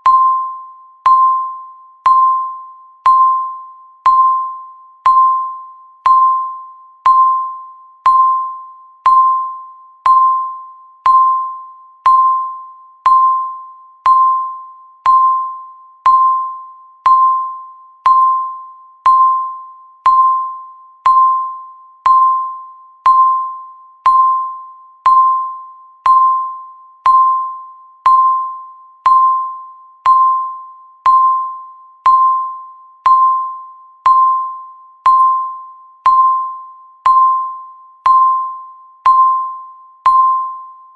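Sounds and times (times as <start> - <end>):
countdown timer beeping: 0.0 - 40.8.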